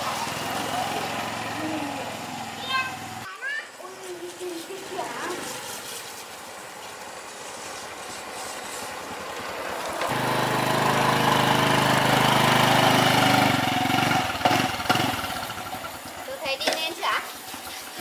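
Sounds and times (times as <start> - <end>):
small motorbike engine: 0.0 - 18.0.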